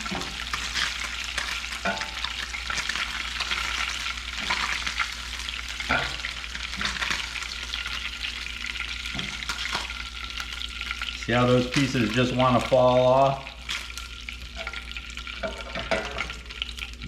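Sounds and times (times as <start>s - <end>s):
fish sizzling in a frying pan: 0.0s - 17.0s.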